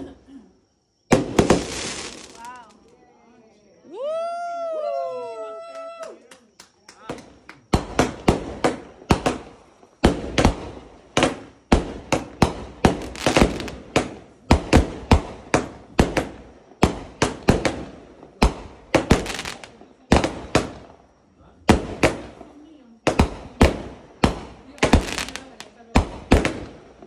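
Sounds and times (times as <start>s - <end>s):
fireworks banging: 1.1s - 2.9s, 6.9s - 27.0s.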